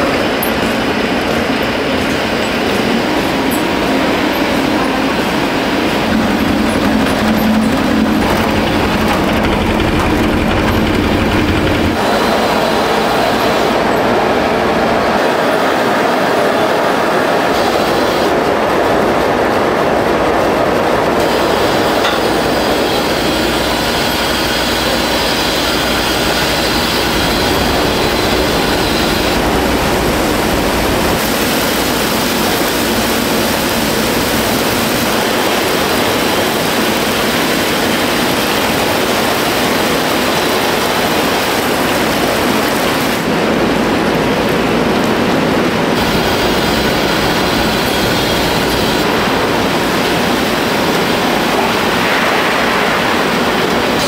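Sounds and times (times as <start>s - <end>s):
steady machine rumble: 0.0s - 15.1s, 17.6s - 54.0s.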